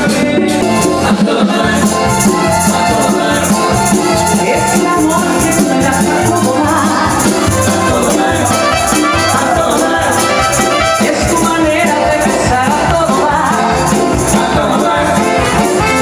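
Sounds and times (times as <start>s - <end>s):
pulsing bass: 0.0s - 16.0s
salsa band playing: 0.0s - 16.0s
maracas shaking: 0.6s - 16.0s.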